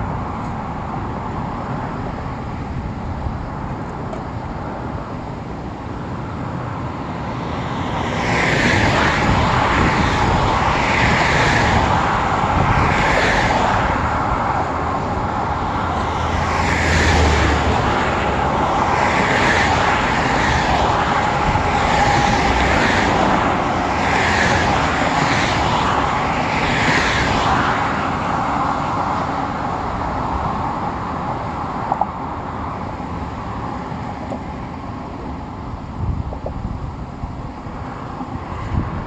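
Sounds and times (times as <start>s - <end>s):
traffic passing by: 0.0s - 39.0s.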